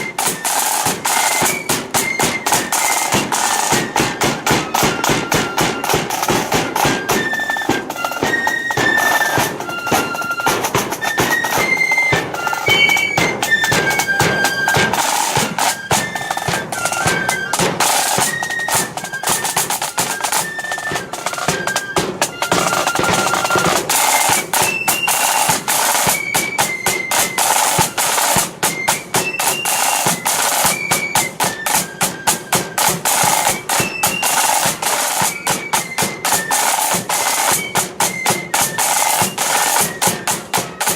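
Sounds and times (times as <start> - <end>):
massed flutes playing melody: 0.0 - 40.9
snare drum beats and rolls: 0.0 - 40.9.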